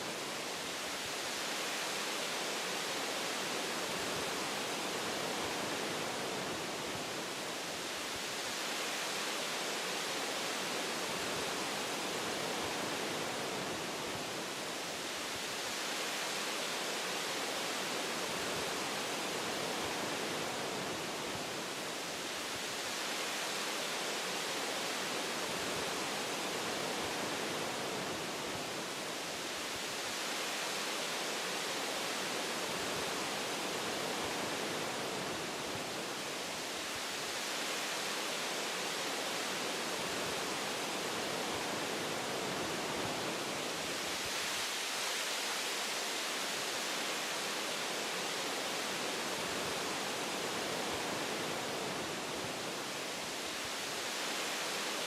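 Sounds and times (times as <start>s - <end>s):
wind through tree branches: 0.0s - 55.0s.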